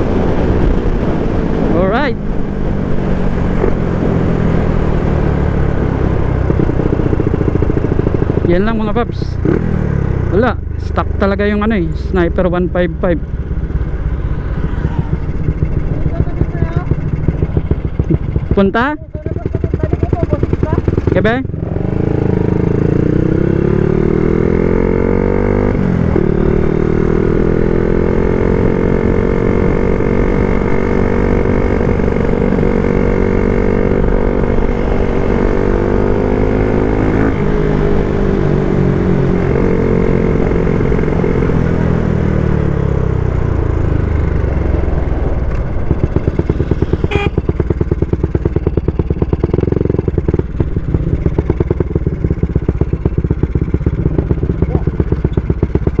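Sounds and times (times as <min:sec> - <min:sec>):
motorcycle engine revving through gears: 0:00.0 - 0:56.0.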